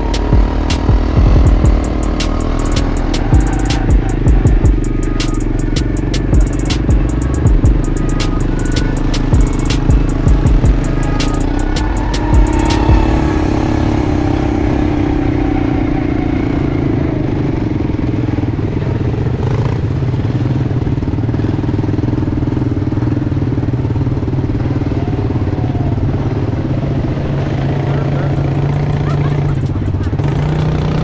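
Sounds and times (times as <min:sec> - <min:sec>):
quad bike engine running: 0:00.0 - 0:31.0.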